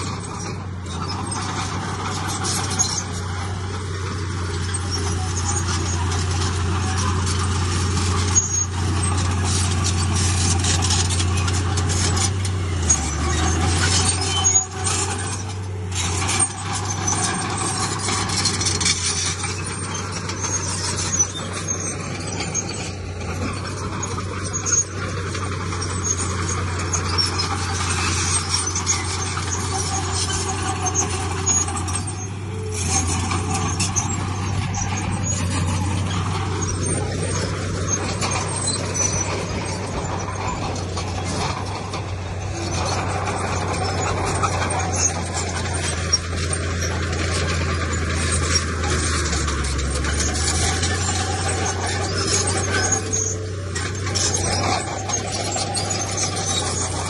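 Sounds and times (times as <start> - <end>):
diesel machinery drone: 0.0 - 57.0
knocks and clanks: 0.0 - 57.0.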